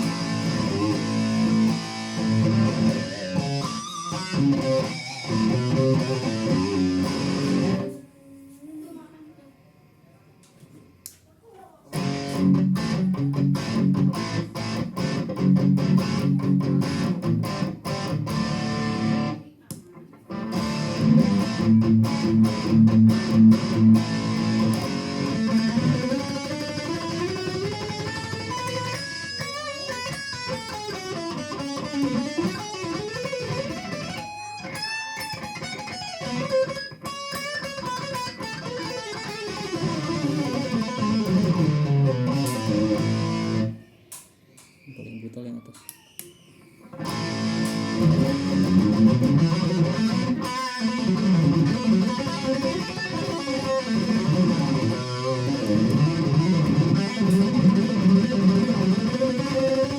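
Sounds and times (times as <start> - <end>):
distorted electric guitar: 0.0 - 8.0, 11.9 - 43.9, 46.8 - 59.9.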